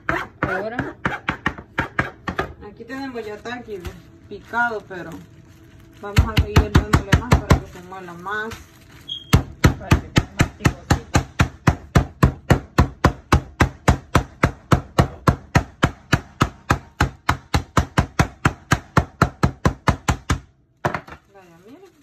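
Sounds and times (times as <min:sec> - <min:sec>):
mallet pounding chips in plastic bag: 0:00.0 - 0:22.0.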